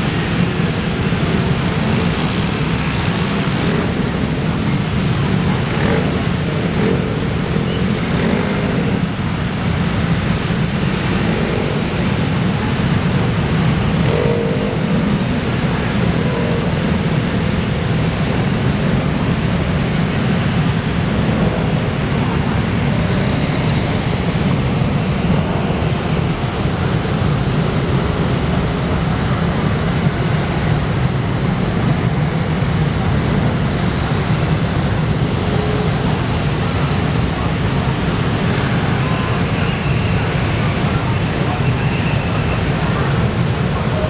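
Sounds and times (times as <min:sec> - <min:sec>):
dense road traffic rumble: 0:00.0 - 0:44.0.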